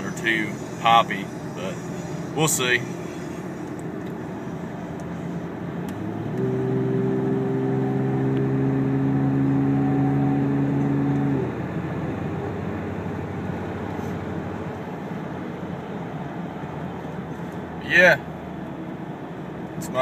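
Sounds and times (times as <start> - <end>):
exhaust drone: 0.0 - 20.0
road and tyre noise: 0.0 - 20.0.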